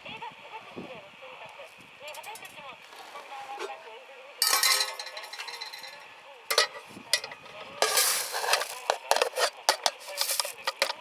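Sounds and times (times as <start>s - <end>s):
cookware scraping and rattling: 2.1s - 11.0s
metal cookware clinking: 2.1s - 11.0s.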